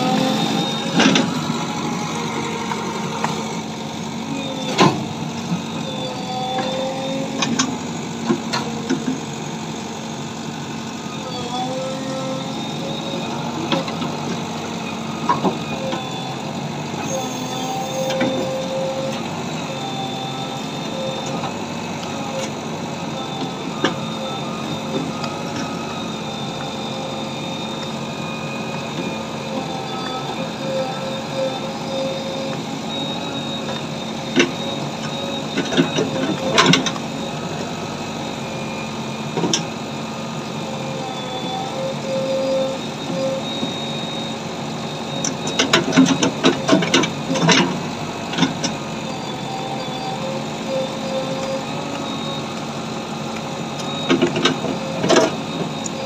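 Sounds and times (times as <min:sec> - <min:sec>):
diesel engine running: 0:00.0 - 0:56.0
hydraulic whine: 0:00.0 - 0:56.0.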